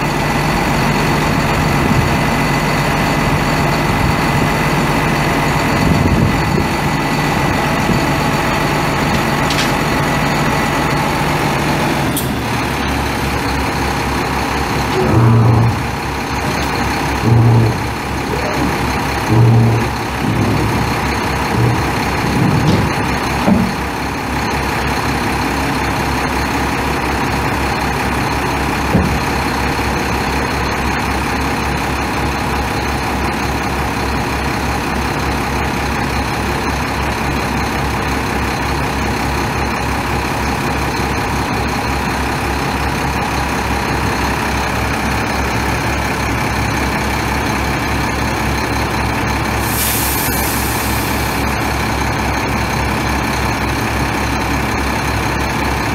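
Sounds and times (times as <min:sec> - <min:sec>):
diesel truck idling: 0:00.0 - 0:55.9.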